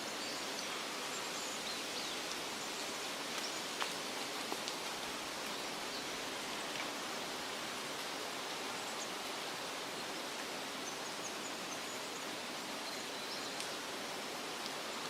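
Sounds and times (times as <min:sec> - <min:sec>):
wind rustling leafy trees: 0:00.0 - 0:15.0.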